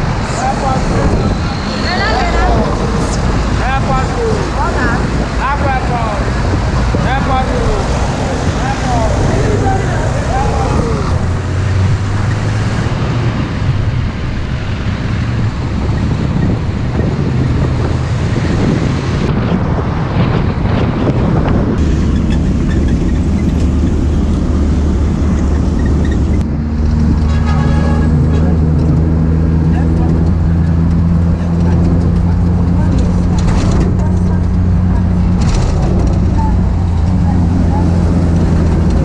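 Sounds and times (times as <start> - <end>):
bus engine running: 0.0 - 39.0
road and traffic noise: 0.0 - 39.0
wind on microphone: 0.0 - 39.0.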